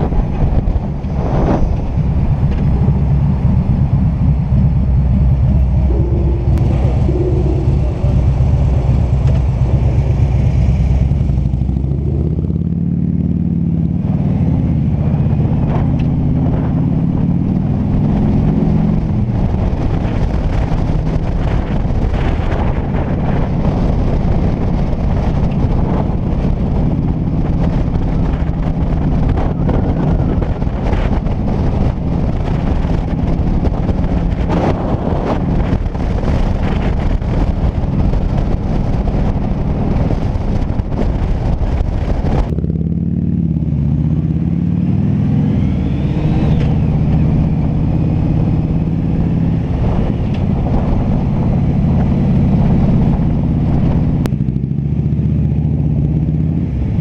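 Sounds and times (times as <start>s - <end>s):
motorcycle engine: 0.0s - 57.0s
road and wind noise: 0.0s - 57.0s.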